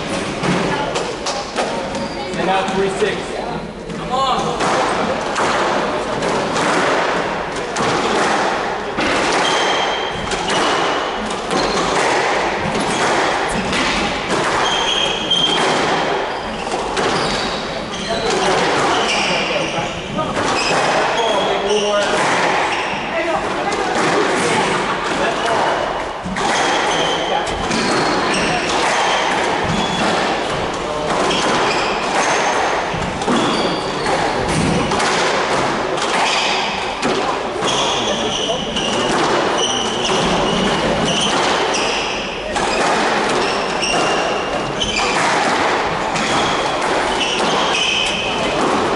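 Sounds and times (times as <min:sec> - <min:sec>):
squash ball hits: 0:00.0 - 0:02.9, 0:03.9 - 0:48.9
shoes squeaking on wooden floor: 0:00.0 - 0:03.2, 0:09.1 - 0:35.0, 0:35.7 - 0:48.9.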